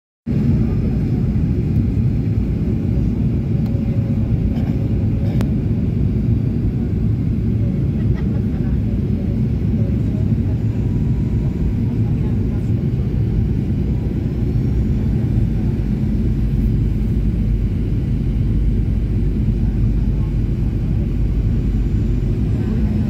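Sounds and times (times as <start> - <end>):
jet engine rumble in cabin: 0.3 - 23.0.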